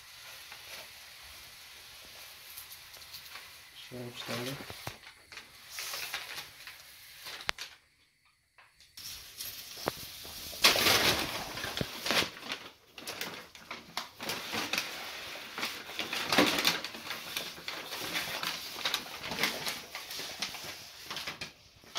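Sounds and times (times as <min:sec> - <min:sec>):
packing paper crinkling: 0:00.0 - 0:07.8, 0:09.0 - 0:21.9.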